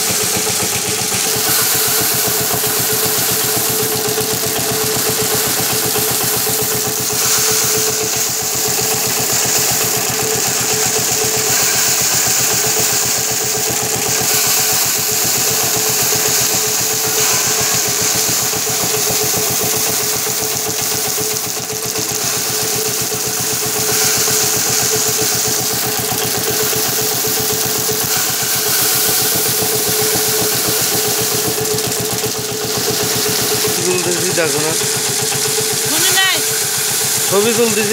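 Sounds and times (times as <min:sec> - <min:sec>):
thresher humming with fast beat: 0:00.0 - 0:37.9
hiss of stripped grain and straw: 0:00.1 - 0:37.9.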